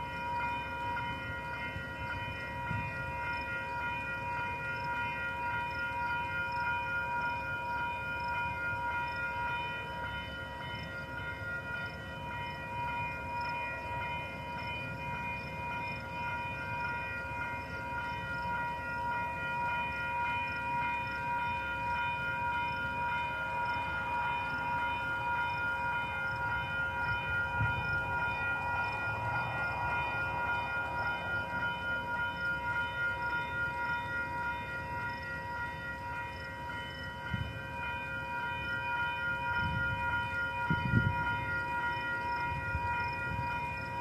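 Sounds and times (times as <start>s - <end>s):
freight train rumbling past: 0.0s - 44.0s
high ringing tones: 0.0s - 44.0s.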